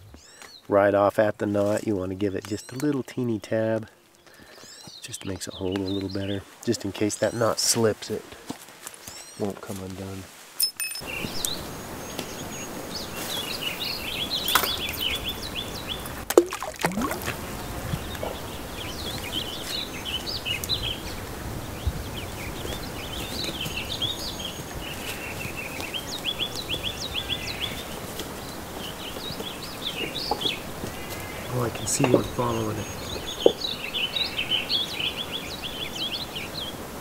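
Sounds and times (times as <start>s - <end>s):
small birds chirping: 0.0s - 10.2s, 10.9s - 37.0s
steady outdoor hiss: 0.0s - 37.0s.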